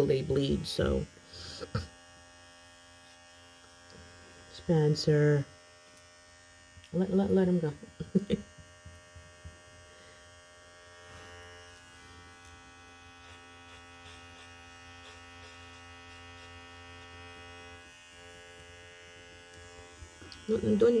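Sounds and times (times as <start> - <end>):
electric trimmer buzzing: 0.0 - 21.0.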